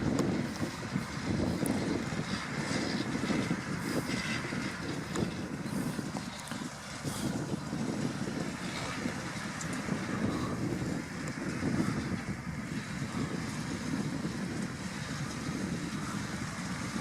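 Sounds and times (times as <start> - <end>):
tractor engine rumble: 0.0 - 17.0.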